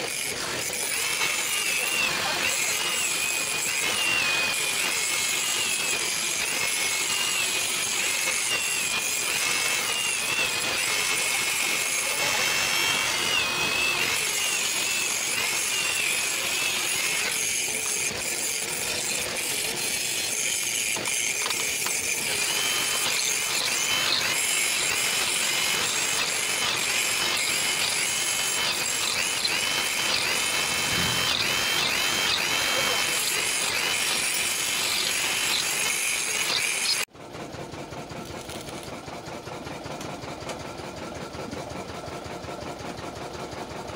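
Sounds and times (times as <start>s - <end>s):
angle grinder cutting steel: 0.0s - 37.1s
electric drill boring steel: 0.0s - 37.1s, 38.3s - 38.9s.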